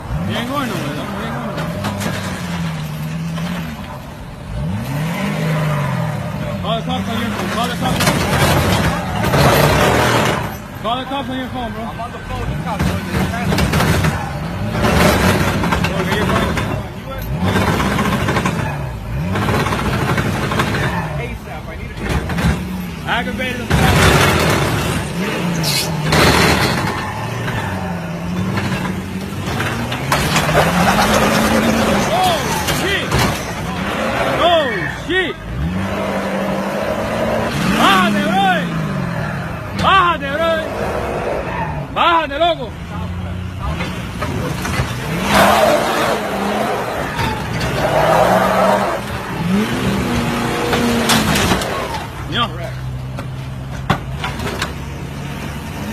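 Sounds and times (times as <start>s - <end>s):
truck engine running: 0.0s - 55.9s
tyres skidding: 0.0s - 55.9s.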